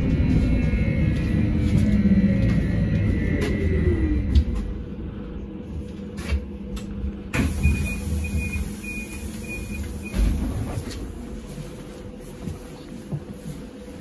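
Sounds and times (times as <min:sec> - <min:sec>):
trolleybus rumble and electric hum: 0:00.0 - 0:14.0.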